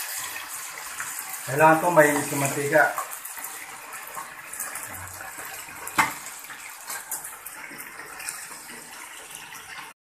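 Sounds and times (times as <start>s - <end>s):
deep-frying sizzle and bubbling: 0.0s - 10.0s.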